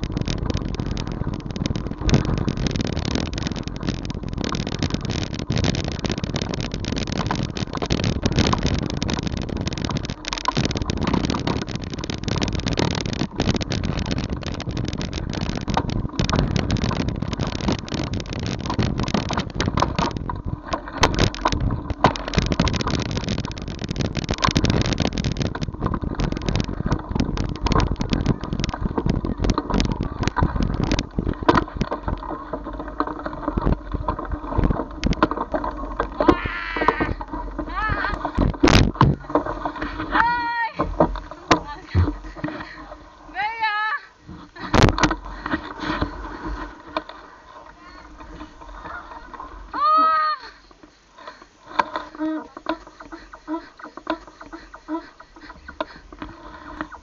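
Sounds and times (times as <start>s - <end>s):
small knocks and clatters: 0.0s - 43.0s, 44.3s - 49.7s
wind on microphone: 0.0s - 43.6s, 44.2s - 50.7s
bike road noise and rattling: 0.0s - 57.0s.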